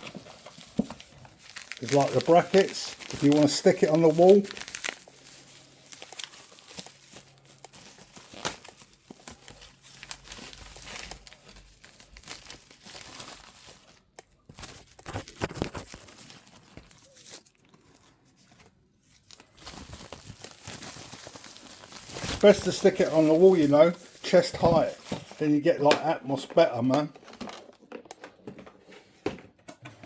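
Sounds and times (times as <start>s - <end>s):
plastic packaging crinkling: 0.0s - 28.1s.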